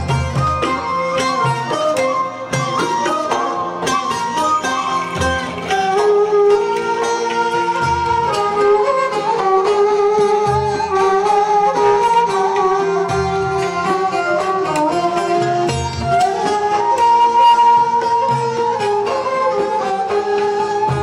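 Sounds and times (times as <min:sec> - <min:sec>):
folk string ensemble playing: 0:00.0 - 0:21.0.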